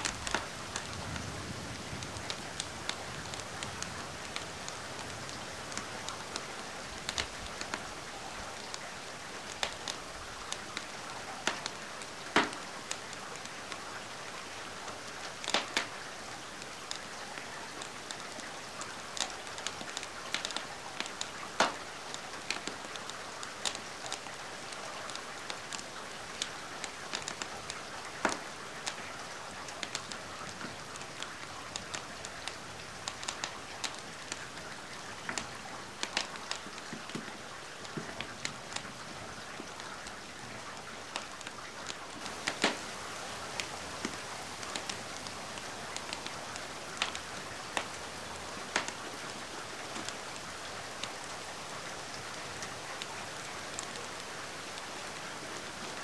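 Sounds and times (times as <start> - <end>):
steady rain hiss: 0.0 - 56.0
wood fire crackling and popping: 0.0 - 56.0.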